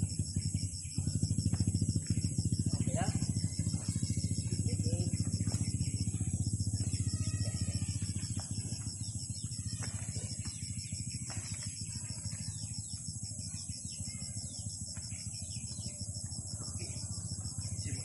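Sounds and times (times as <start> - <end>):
insects trilling: 0.0 - 18.0
bird chirps: 0.1 - 18.0.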